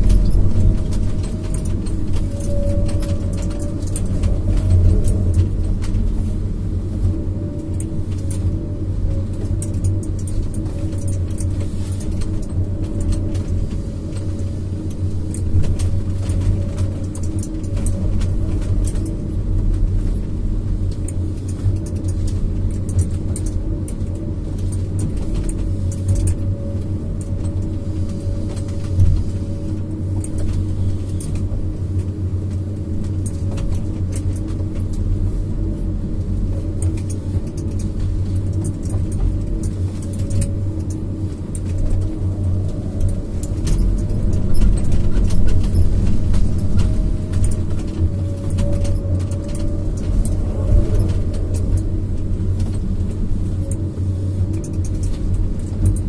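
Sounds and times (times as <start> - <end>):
diesel engine and hydraulics running: 0.0 - 56.0.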